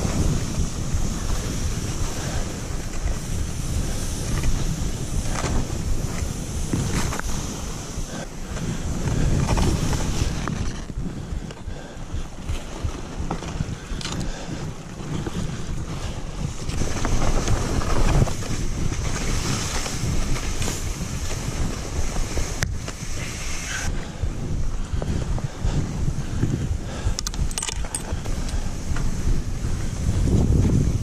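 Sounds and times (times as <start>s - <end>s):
skis sliding through powder snow: 0.0s - 27.1s, 28.0s - 31.0s
wind rushing over microphone: 0.0s - 31.0s.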